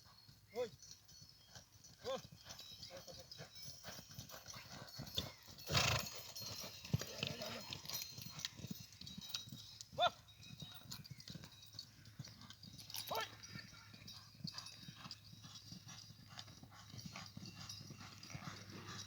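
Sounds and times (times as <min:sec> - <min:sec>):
horse hooves stamping on dirt: 0:00.0 - 0:19.0.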